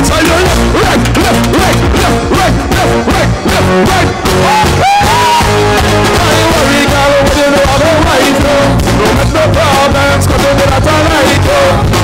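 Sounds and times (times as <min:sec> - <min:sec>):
live band playing upbeat song: 0:00.0 - 0:12.0.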